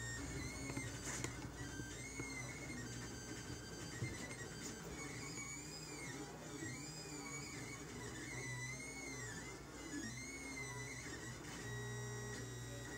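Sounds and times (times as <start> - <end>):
stepper motors whining: 0.0 - 12.9.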